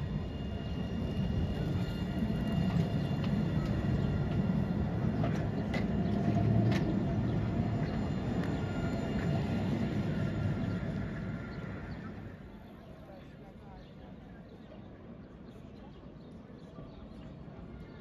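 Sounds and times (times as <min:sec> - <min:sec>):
tram rolling past: 0:00.0 - 0:18.0.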